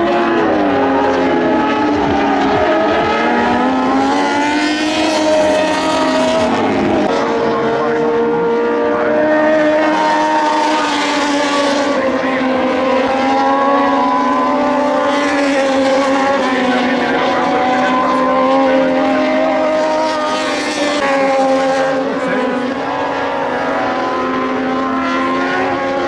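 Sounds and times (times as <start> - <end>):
racing motorcycle engines: 0.0 - 26.0.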